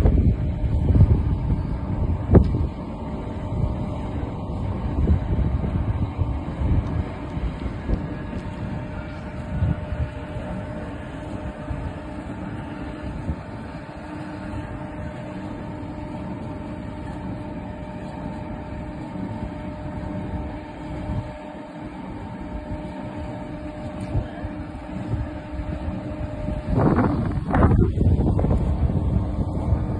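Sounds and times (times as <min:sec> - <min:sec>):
low rumble: 0:00.0 - 0:29.9
machine humming: 0:00.0 - 0:29.9
wind buffeting microphone: 0:00.0 - 0:29.9.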